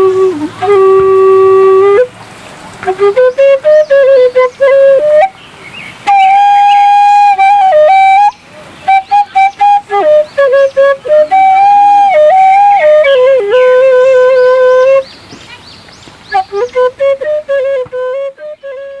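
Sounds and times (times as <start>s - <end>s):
bamboo flute melody: 0.0s - 2.2s, 2.8s - 5.4s, 6.0s - 15.5s, 16.2s - 19.0s.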